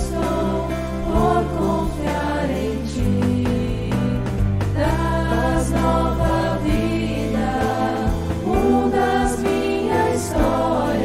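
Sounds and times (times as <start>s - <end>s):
slow christian song: 0.0s - 11.0s.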